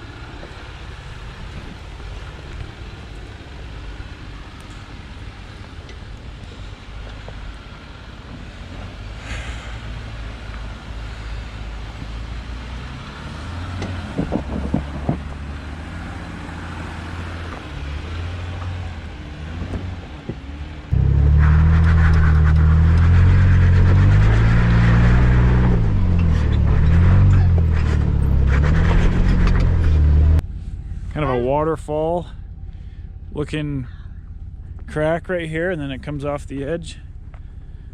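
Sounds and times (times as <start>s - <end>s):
jeep engine running: 0.0s - 37.9s.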